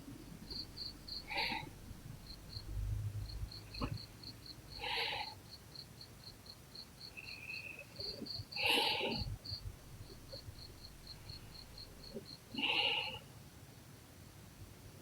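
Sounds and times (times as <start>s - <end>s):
cricket chirping: 0.2s - 13.2s.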